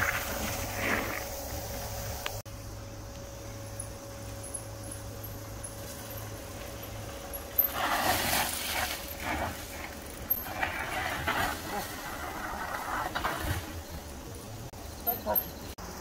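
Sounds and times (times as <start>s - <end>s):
bike tyres crunching leaves: 0.0s - 2.4s, 3.1s - 15.7s.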